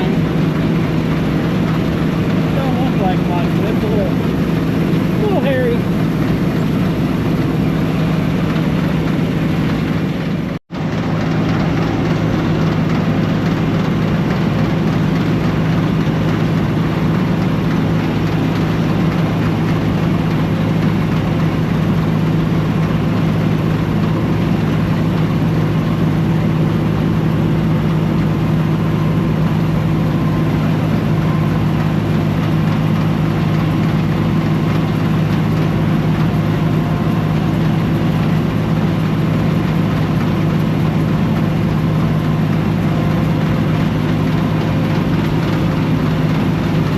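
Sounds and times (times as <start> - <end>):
combine harvester engine and threshing: 0.0 - 46.9.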